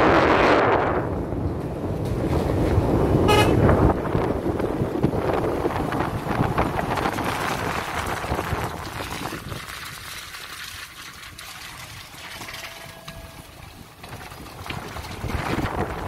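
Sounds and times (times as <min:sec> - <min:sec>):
wind buffeting microphone: 0:00.0 - 0:10.3, 0:11.8 - 0:16.0.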